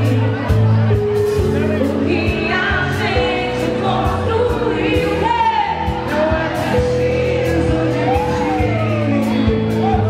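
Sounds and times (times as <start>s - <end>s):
person singing: 1.6s - 10.0s.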